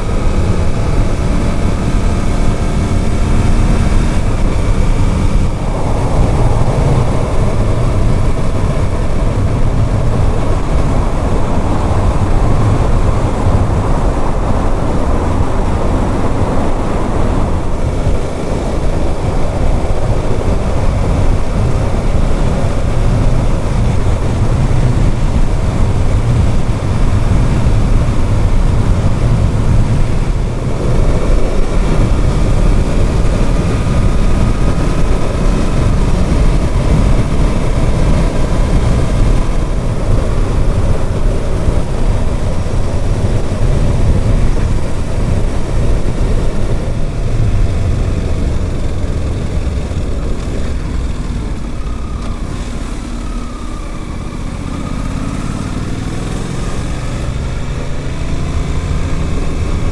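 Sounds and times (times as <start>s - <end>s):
motorcycle engine revving up: 0.0s - 59.9s
wind and road noise: 0.0s - 59.9s.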